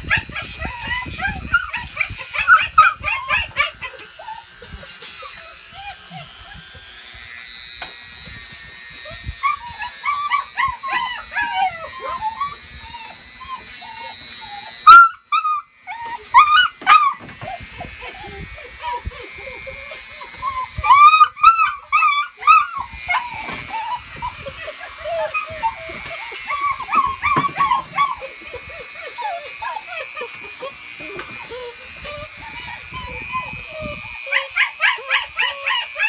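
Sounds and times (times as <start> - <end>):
puppy whining and yelping: 0.0 - 7.4, 8.2 - 36.0
rotary tool whine: 0.0 - 36.0.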